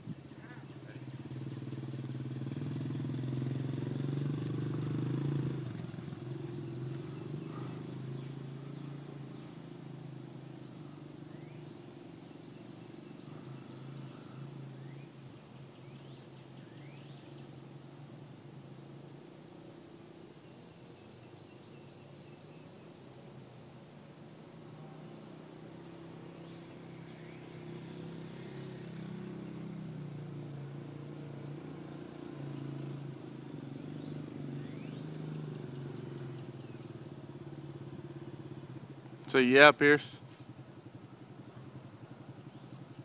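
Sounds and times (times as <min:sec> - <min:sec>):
dirt bike engine riding off: 0:00.0 - 0:19.7, 0:23.8 - 0:43.0
faint bird chirps: 0:00.0 - 0:43.0.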